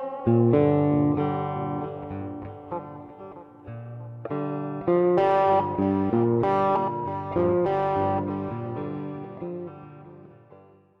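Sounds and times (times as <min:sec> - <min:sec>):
guitar music: 0:00.0 - 0:11.0.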